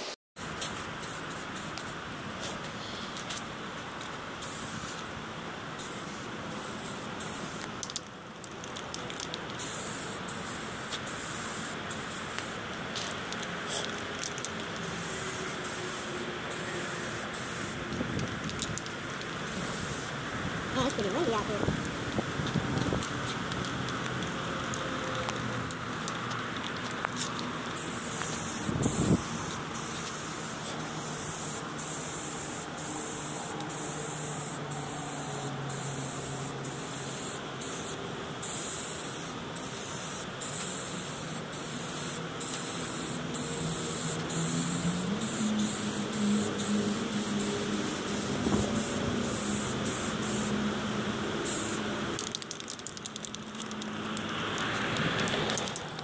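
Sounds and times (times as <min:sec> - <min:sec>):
spray can hissing: 0:00.4 - 0:02.6, 0:04.4 - 0:05.0, 0:05.8 - 0:08.0, 0:08.7 - 0:20.2, 0:22.5 - 0:50.6, 0:51.4 - 0:56.0.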